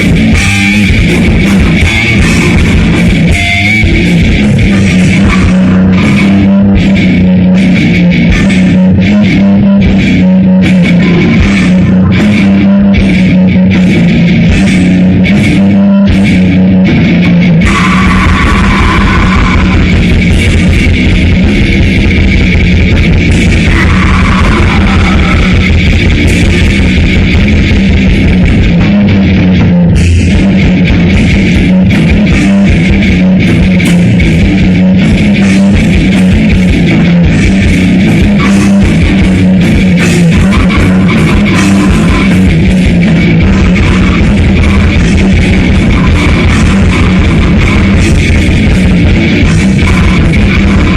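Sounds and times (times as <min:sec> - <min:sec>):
distorted electric guitar: 0:00.0 - 0:50.9
fast dense drumming: 0:00.0 - 0:50.9.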